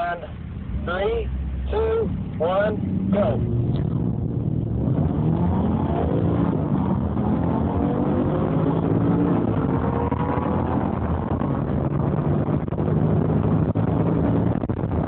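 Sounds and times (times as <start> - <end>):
car engine accelerating: 0.0 - 15.0
heavy wind rush: 0.7 - 15.0.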